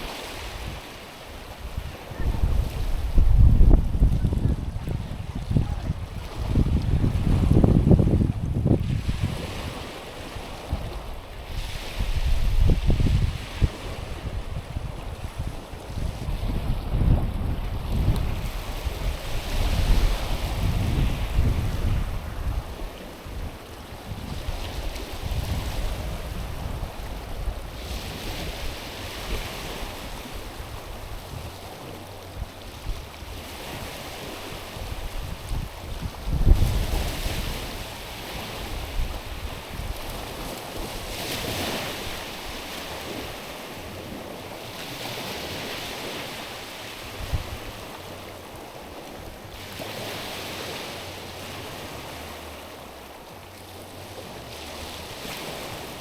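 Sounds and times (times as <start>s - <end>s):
waves washing over stones: 0.0s - 56.0s
wind rumble on microphone: 0.0s - 56.0s.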